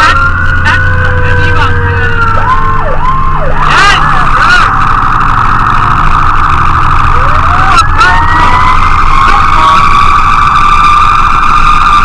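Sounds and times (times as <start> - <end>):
fire engine siren: 0.0 - 12.0
second siren tone rising: 0.0 - 12.0
truck engine: 0.0 - 12.0.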